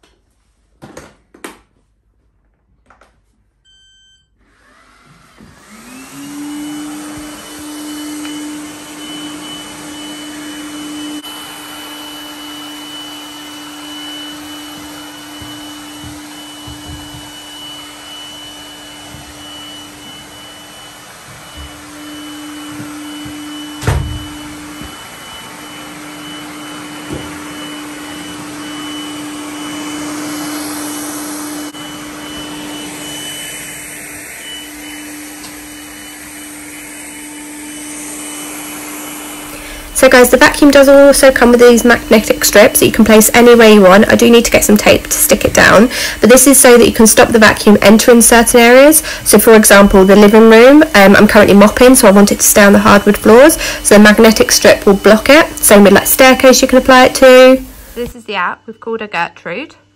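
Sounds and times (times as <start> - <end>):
robot vacuum motor hum: 4.4 - 58.2.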